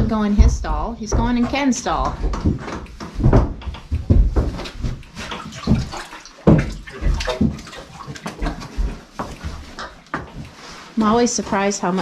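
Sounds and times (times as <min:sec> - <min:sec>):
horses gulping and slurping water: 0:00.0 - 0:12.0
water sloshing in tank: 0:00.0 - 0:12.0.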